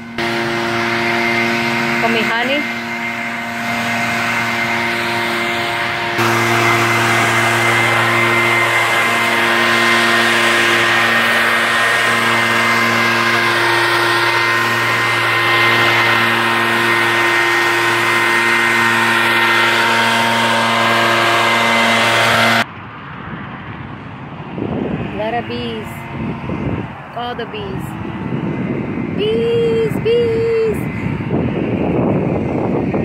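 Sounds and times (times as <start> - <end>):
leaf blower engine running: 0.0 - 22.7, 24.9 - 33.0.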